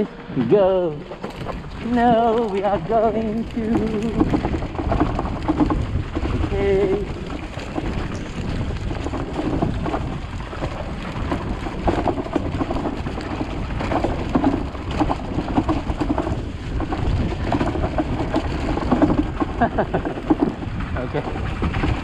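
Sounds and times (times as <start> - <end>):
scooter knocking and rattling: 0.0 - 22.0
wind on microphone: 0.0 - 22.0
rain: 1.1 - 22.0.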